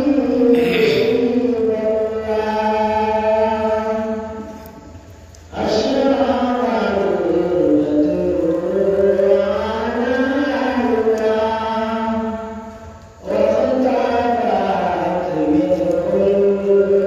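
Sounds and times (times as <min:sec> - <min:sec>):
man chanting devotional recitation: 0:00.0 - 0:04.5, 0:05.5 - 0:12.6, 0:13.2 - 0:17.0.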